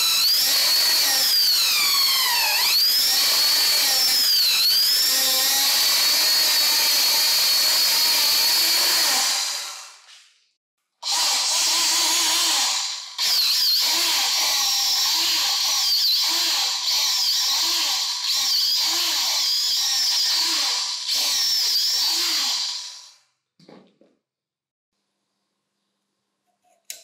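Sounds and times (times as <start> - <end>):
drill drilling into wood: 0.0 - 10.0, 11.0 - 23.2.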